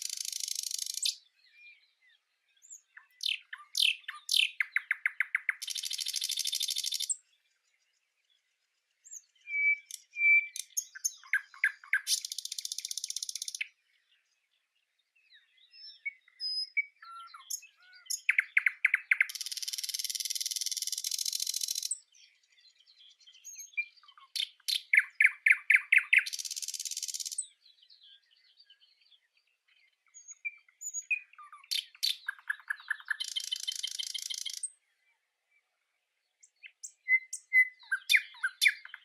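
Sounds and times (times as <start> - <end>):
small bird singing: 0.0 - 39.0.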